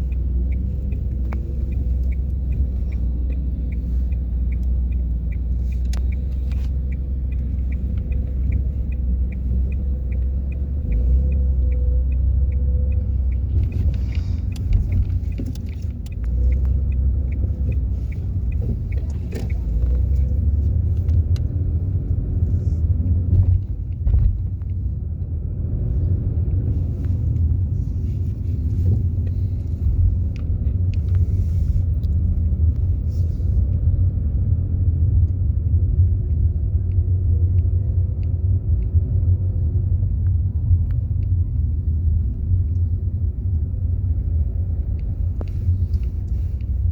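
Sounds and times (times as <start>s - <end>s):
car engine and road rumble: 0.0s - 46.9s
regular ticking: 0.0s - 46.9s.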